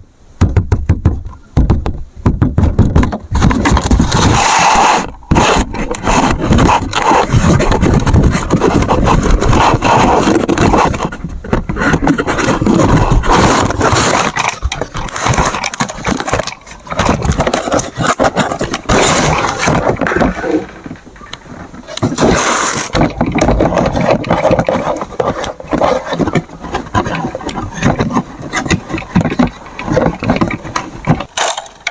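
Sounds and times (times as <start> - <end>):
hard plastic scraping and clattering: 0.4 - 31.9.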